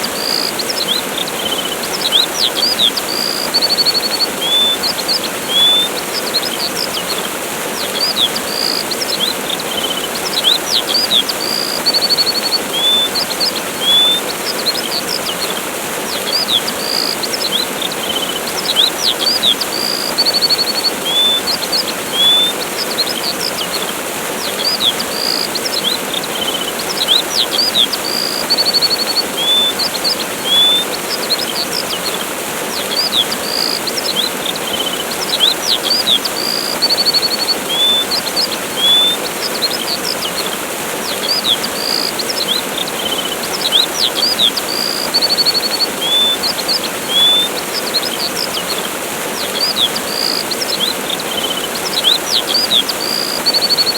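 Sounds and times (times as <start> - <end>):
songbirds chirping: 0.0 - 53.9
waterfall rushing: 0.0 - 53.9.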